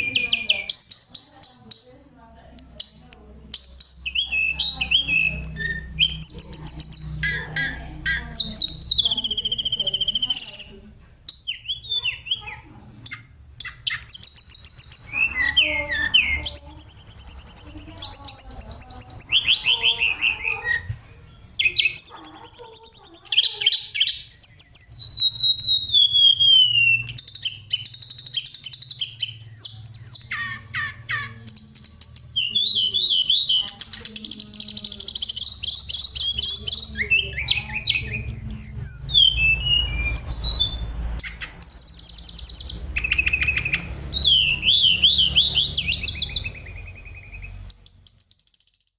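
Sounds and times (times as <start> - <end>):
magpie-robin singing whistles and trills: 0.0 - 2.1, 2.8 - 48.9.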